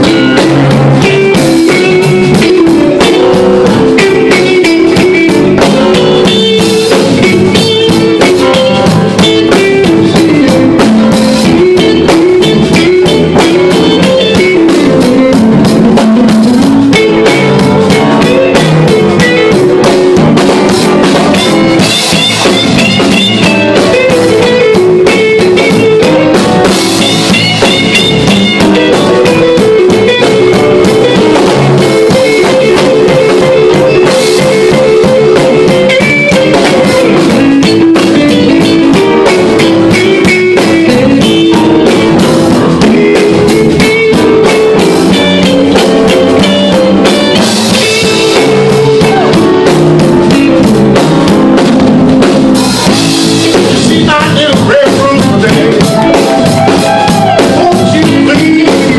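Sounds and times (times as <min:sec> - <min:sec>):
drum kit: 0:00.0 - 0:58.9
electric guitars: 0:00.0 - 0:58.9.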